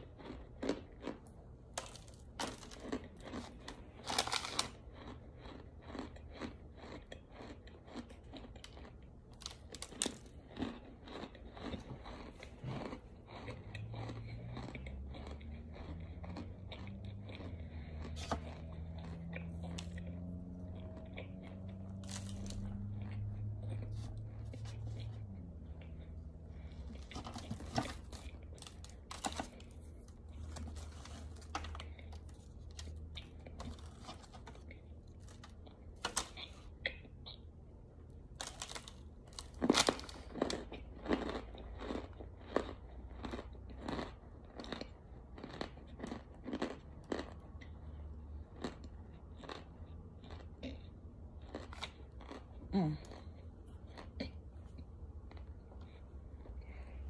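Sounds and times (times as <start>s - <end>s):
crunchy chewing: 0.0s - 37.5s, 38.3s - 57.0s.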